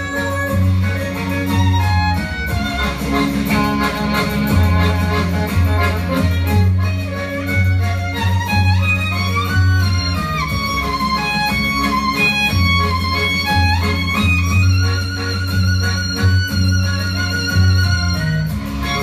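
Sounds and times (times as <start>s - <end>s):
accordion accompaniment: 0.0s - 19.0s
violin melody: 0.0s - 19.0s.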